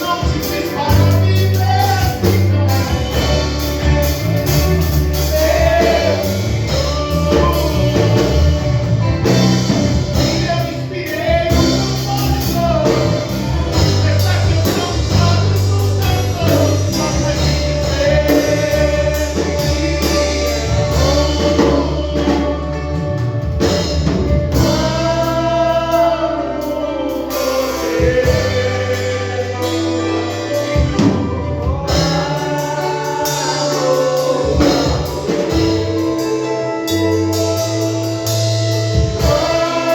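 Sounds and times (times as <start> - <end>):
gospel band playing: 0.0 - 39.9
voices singing together: 0.0 - 39.9.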